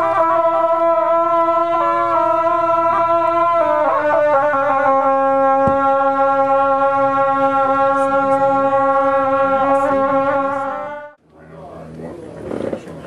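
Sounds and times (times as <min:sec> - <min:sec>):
horns playing long held note: 0:00.0 - 0:11.2.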